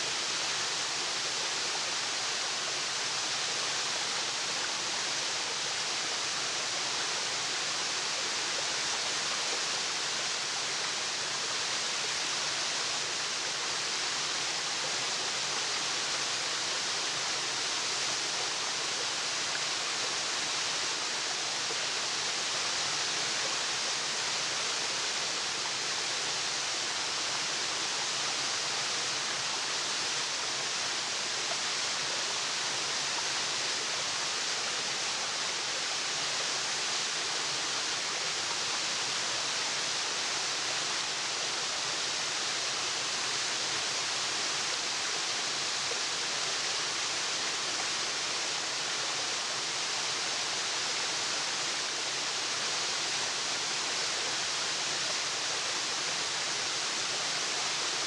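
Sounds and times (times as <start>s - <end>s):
waterfall hissing rush: 0.0s - 58.0s.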